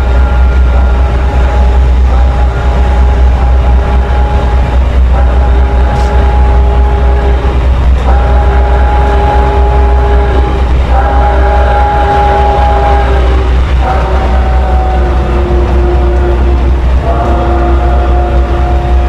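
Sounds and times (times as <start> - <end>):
train rumbling: 0.0 - 19.0
whining tones: 0.0 - 19.0.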